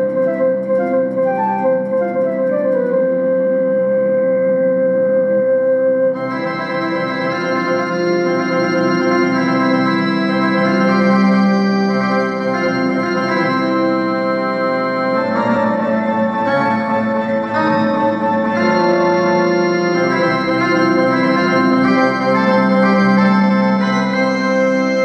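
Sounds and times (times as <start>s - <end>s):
electronic keyboard organ chords: 0.0s - 25.0s.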